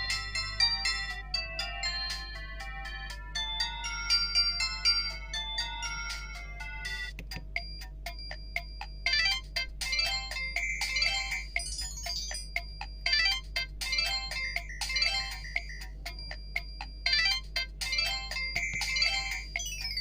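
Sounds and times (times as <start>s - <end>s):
chiming ringtone melody: 0.0s - 20.0s
electronic ringtone rapid notes: 0.0s - 20.0s.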